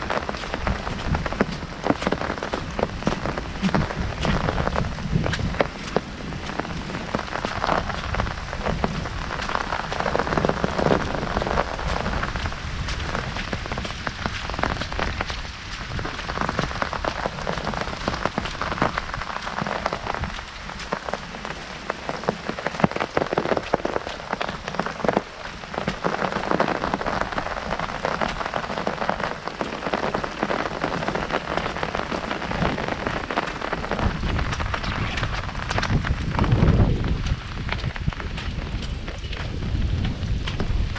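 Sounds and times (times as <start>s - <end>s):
heavy rain on an umbrella: 0.0s - 40.9s.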